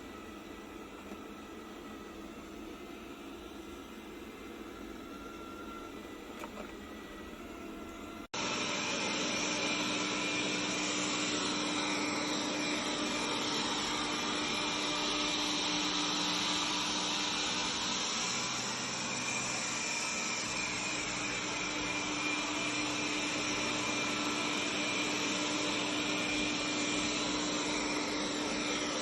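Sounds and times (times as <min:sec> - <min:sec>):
robot vacuum cleaner whirring: 0:00.0 - 0:29.0.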